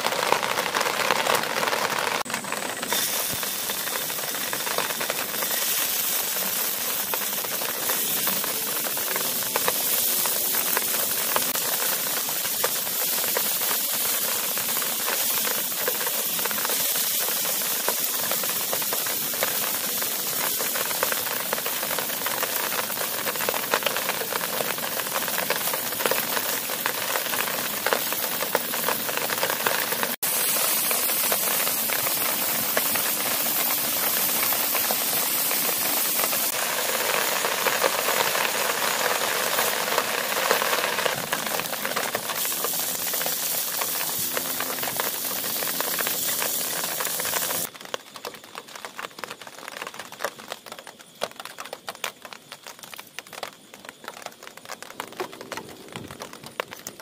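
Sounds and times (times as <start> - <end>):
beef sizzling in hot oil: 0.0 - 55.4.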